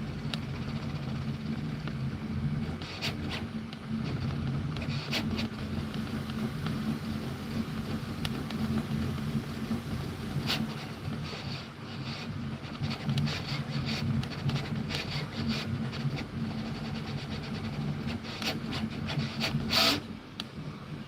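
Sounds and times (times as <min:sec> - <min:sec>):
print head ticking and rustling: 0:00.0 - 0:20.6
printer motor hum: 0:00.0 - 0:21.0.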